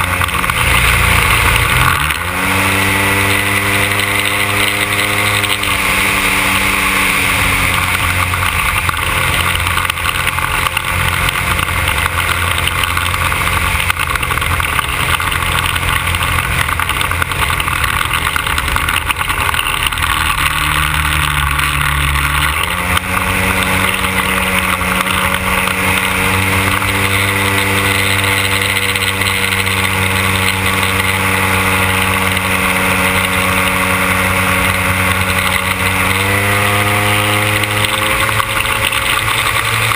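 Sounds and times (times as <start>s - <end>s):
model plane two-stroke engine: 0.0s - 39.9s.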